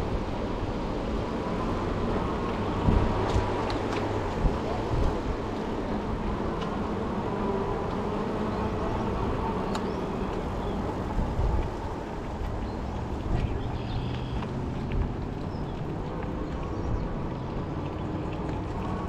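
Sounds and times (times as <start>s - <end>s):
fat tyres rumbling on road: 0.0s - 19.0s
wind on microphone: 0.0s - 19.0s.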